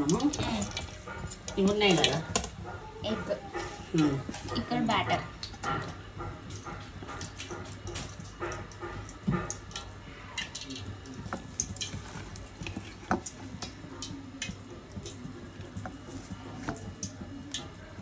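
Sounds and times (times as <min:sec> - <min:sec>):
fingers squelching in wet batter: 0:00.0 - 0:18.0.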